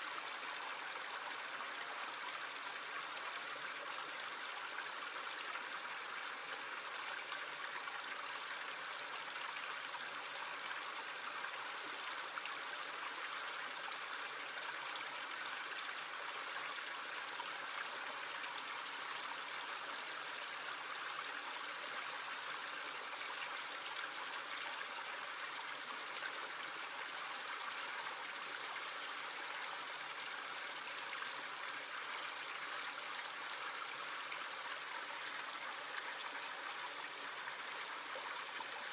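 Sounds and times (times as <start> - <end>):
small stream flowing: 0.0 - 38.9.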